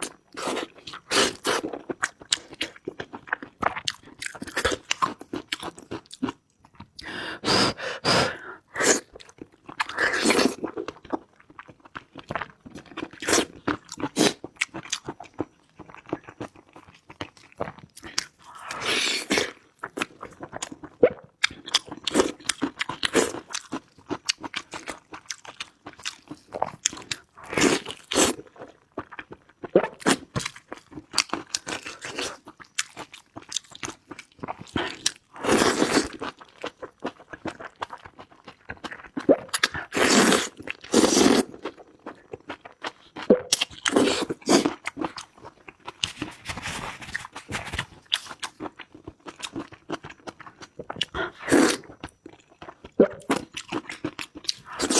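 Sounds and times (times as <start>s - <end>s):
crunchy bites and chewing: 0.0s - 7.1s, 7.7s - 54.9s.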